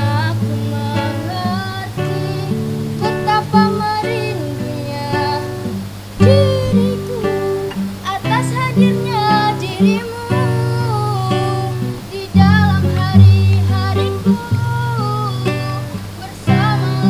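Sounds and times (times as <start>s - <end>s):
acoustic guitar strumming: 0.0s - 17.0s
person singing: 0.0s - 17.0s.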